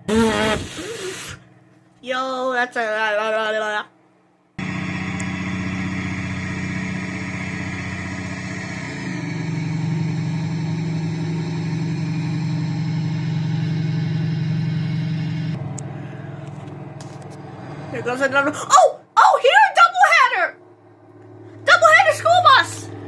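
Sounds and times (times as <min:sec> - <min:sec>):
video game bus engine drone: 0:00.0 - 0:01.7, 0:03.7 - 0:23.0.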